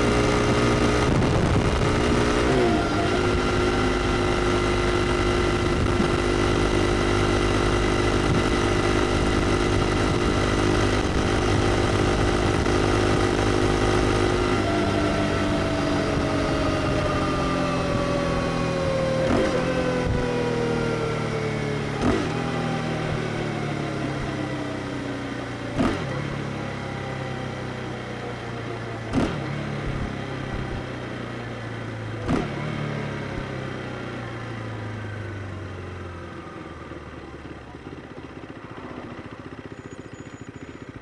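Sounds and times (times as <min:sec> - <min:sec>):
motorcycle engine slowing down: 0:00.0 - 0:41.0.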